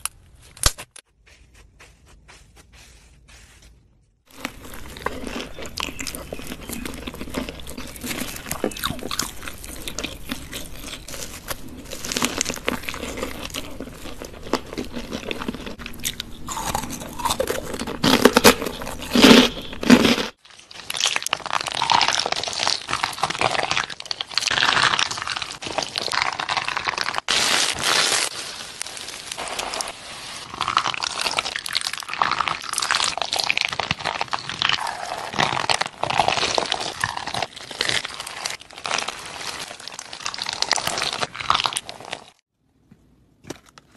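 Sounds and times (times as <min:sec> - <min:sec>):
biting and chewing food: 0:04.2 - 0:42.5.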